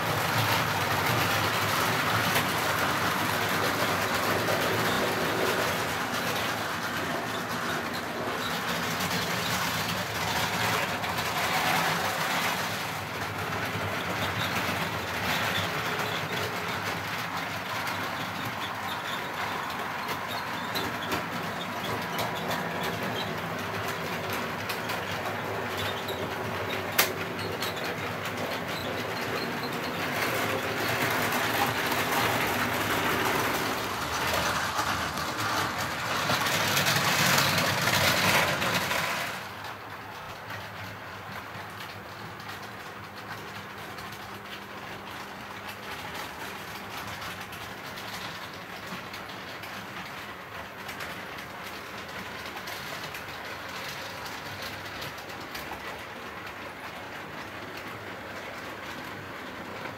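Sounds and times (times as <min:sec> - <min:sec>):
model trains running on track: 0:00.0 - 0:59.9.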